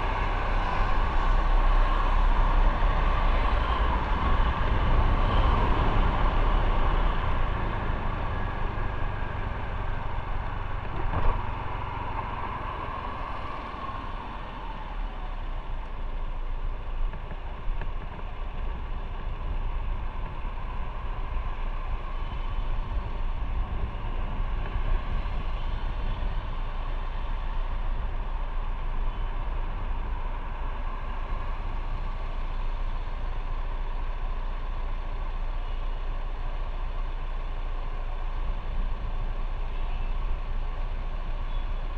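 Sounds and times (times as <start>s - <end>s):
motorcycle engine rumble: 0.0s - 41.9s
road and wind noise: 0.0s - 41.9s.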